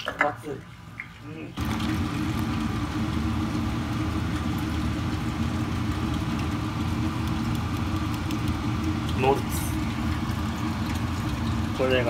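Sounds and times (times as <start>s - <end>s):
low motor-like hum: 0.0s - 12.0s.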